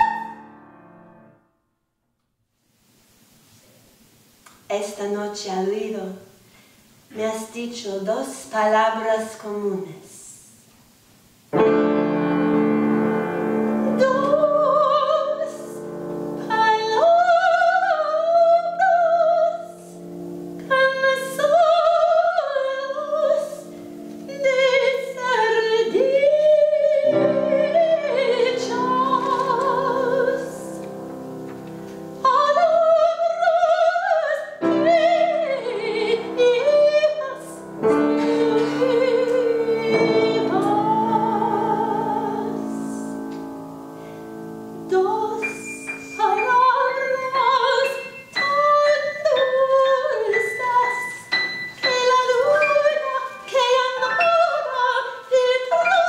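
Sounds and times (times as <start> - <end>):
soprano singing: 0.0 - 0.8, 11.6 - 56.0
grand piano chords: 0.0 - 1.8, 11.5 - 56.0.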